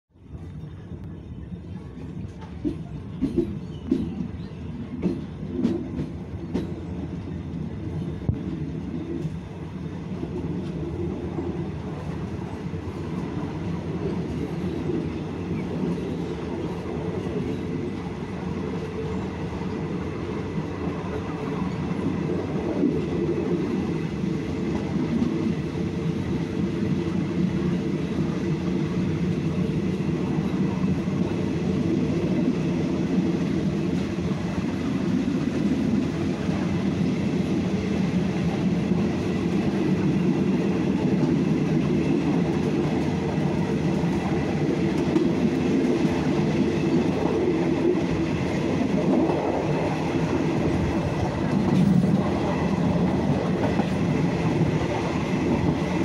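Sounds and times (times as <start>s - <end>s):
train wheels rumbling on rail: 0.2s - 56.0s.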